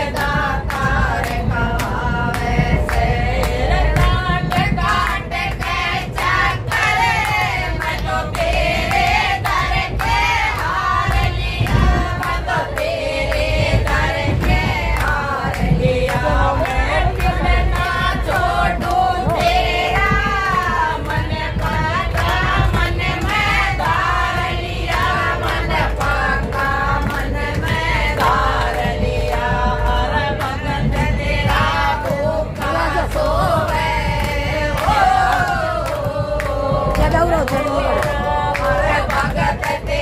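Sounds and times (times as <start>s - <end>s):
continuous low rumble: 0.0s - 40.0s
group singing devotional song: 0.0s - 40.0s.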